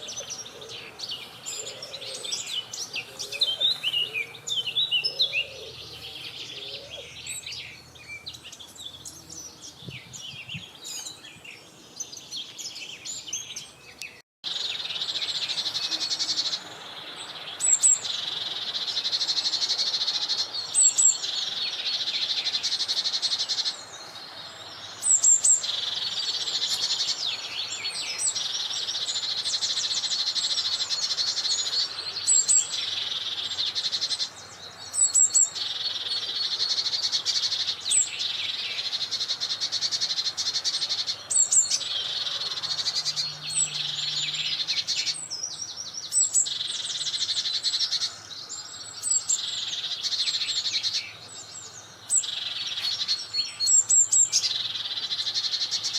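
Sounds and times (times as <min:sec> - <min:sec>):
birds trilling: 0:00.0 - 0:55.9.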